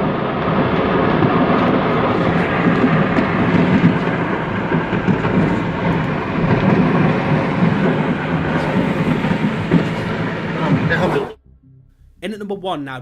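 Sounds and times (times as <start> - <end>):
fireworks crackling barrage: 0.0 - 11.4.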